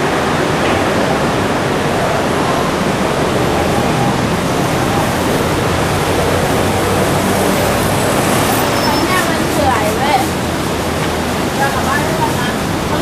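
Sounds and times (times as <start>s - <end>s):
heavy road traffic: 0.0s - 13.0s.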